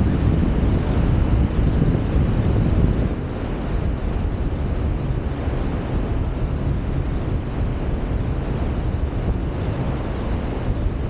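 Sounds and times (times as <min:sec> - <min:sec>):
ocean surf breaking on beach: 0:00.0 - 0:11.0
wind on microphone: 0:00.0 - 0:11.0.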